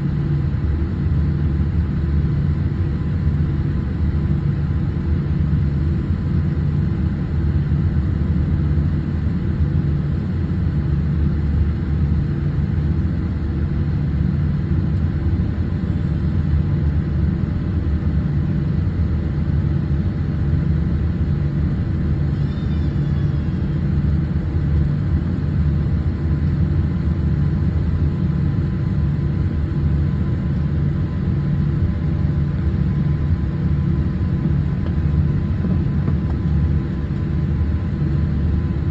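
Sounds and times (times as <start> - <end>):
airplane cabin low rumble: 0.0 - 38.9.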